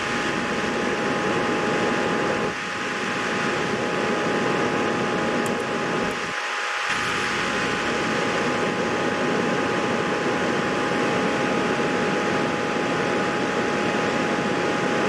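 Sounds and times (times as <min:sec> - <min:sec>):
fan whirring: 0:00.0 - 0:15.0
thin whine: 0:00.0 - 0:15.0.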